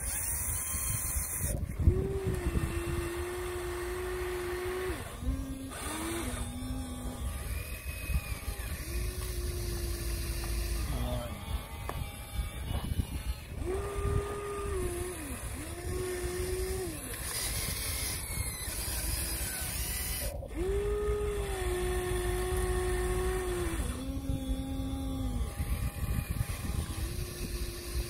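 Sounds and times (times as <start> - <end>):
electric motors whining: 0.0 - 28.0
steady low rumble: 0.8 - 28.0.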